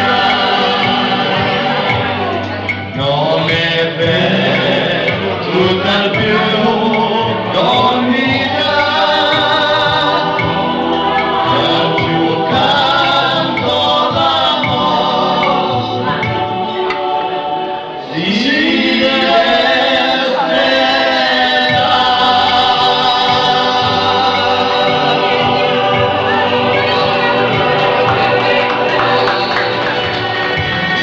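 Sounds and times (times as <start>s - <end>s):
acoustic guitar: 0.0s - 31.0s
keyboards: 0.0s - 31.0s
person singing into microphone: 0.0s - 31.0s.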